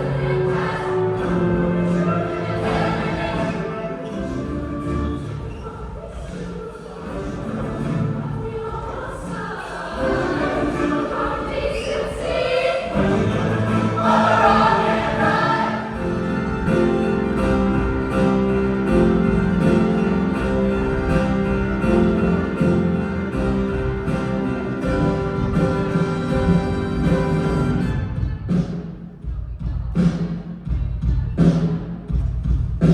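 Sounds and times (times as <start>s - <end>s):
choir singing: 0.0s - 28.2s.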